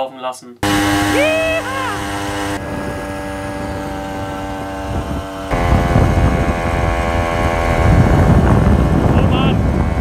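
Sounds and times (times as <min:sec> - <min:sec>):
moped engine running: 0:00.6 - 0:10.0
wind buffeting microphone: 0:00.7 - 0:10.0.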